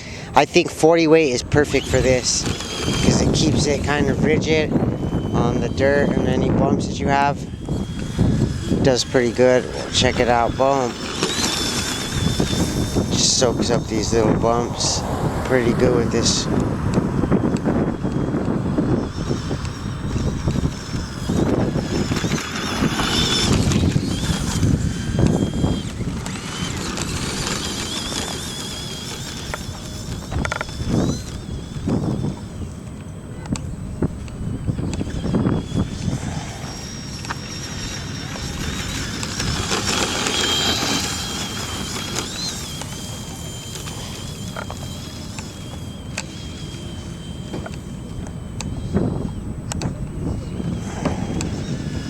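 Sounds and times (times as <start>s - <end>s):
toy truck motor whine: 0.0s - 52.0s
wind on microphone: 0.0s - 52.0s.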